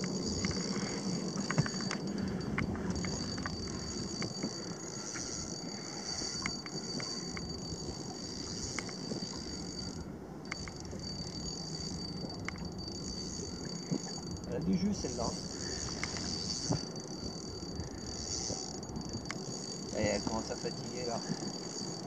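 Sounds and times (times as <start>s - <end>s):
low hum: 0.0s - 22.0s
steady high-pitched whine: 0.0s - 22.0s.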